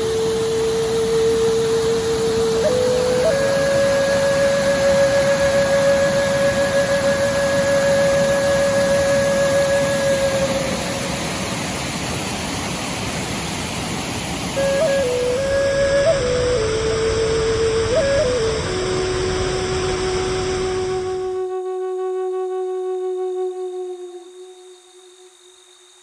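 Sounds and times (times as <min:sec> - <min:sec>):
long held musical note: 0:00.0 - 0:12.0, 0:14.6 - 0:25.4
waterfall rushing: 0:00.0 - 0:21.5.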